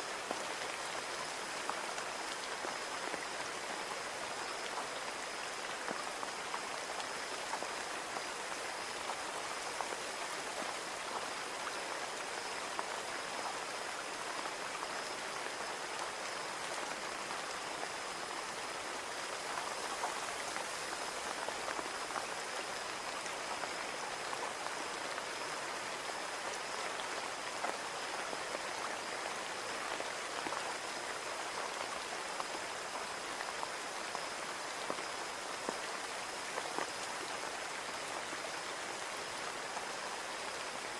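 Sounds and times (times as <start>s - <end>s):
rain on a window pane: 0.0s - 40.9s.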